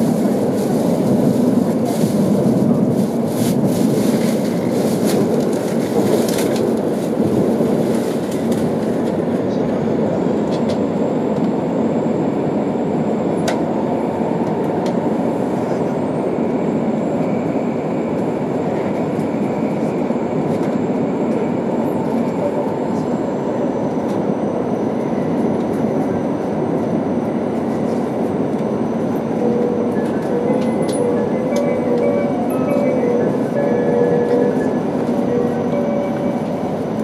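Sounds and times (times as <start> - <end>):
train cabin rumble in tunnel: 0.0 - 37.0.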